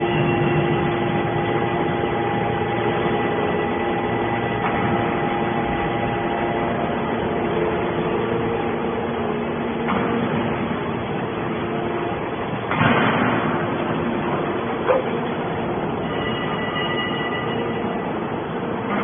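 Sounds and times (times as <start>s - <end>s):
hydraulic baler press humming: 0.0s - 19.0s.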